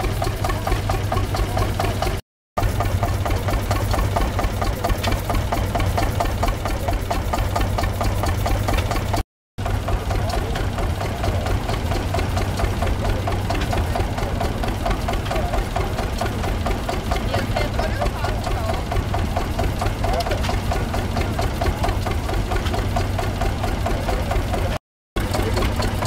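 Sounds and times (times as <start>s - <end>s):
diesel tractor engine knocking: 0.0s - 26.0s.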